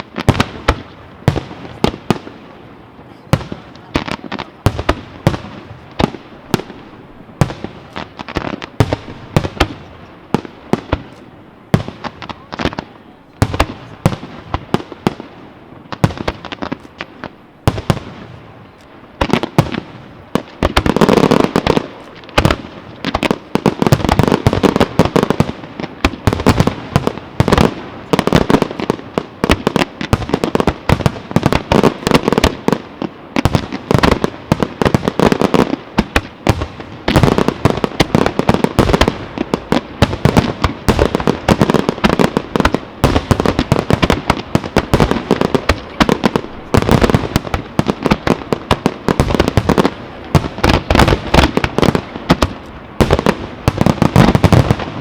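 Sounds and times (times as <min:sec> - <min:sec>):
fireworks explosions and crackling: 0:00.0 - 0:55.0.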